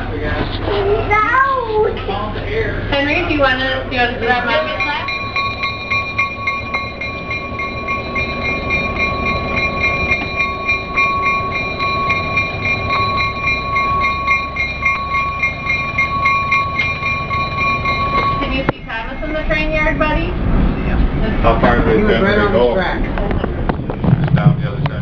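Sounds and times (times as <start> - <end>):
rail car rumbling: 0.0 - 25.0
high-pitched whine: 3.0 - 25.0.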